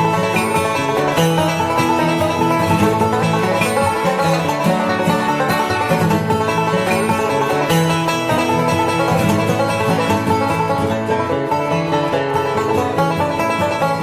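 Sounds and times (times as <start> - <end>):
bluegrass banjo and guitar music: 0.0 - 14.0.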